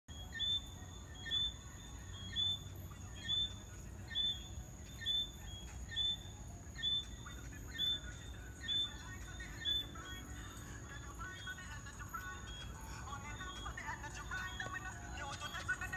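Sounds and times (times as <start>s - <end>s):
tree frog chirping: 0.1s - 15.9s.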